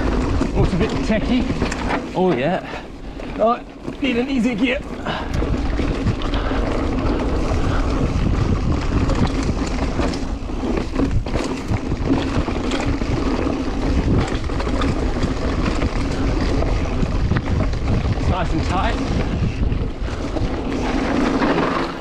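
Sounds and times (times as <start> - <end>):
bike rattling over rocks: 0.0 - 22.0
wind buffeting microphone: 0.0 - 22.0.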